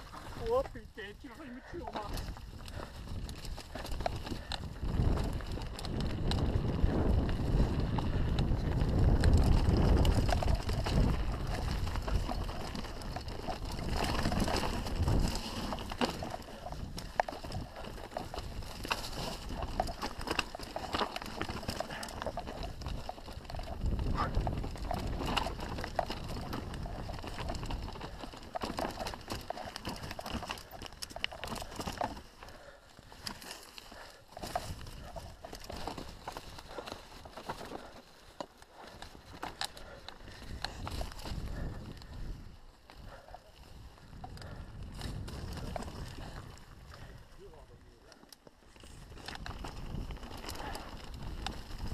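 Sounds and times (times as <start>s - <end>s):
wind rumble on microphone: 0.0s - 33.2s, 33.9s - 37.9s, 38.7s - 51.9s
tyres rolling over dirt and stones: 0.0s - 47.3s, 48.2s - 51.9s
bike clacking and rattling: 2.0s - 43.3s, 48.7s - 51.9s.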